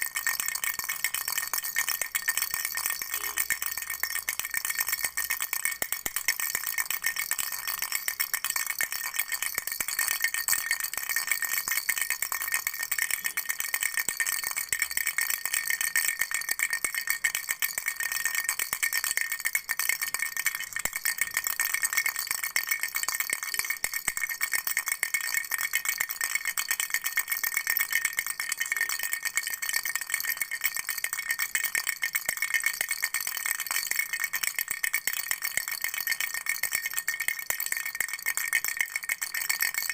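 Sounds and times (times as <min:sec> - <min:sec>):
baby rattle shaken: 0:00.0 - 0:25.8, 0:26.4 - 0:39.9.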